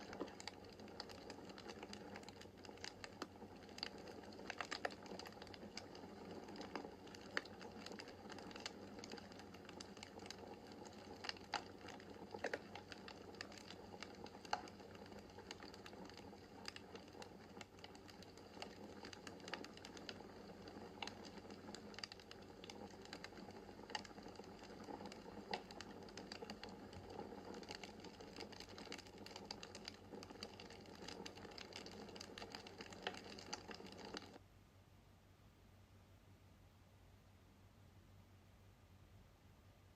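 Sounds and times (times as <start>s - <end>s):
wood fire crackling and popping: 0.0s - 34.4s.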